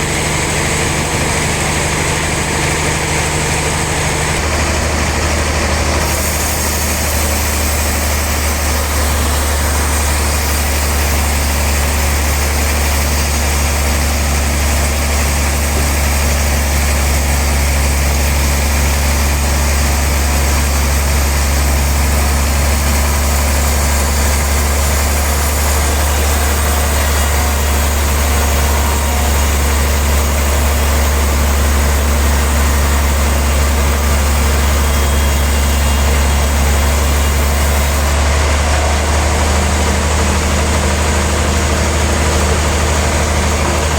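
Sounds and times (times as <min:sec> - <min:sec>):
sawmill machinery sawing log: 0:00.0 - 0:43.9.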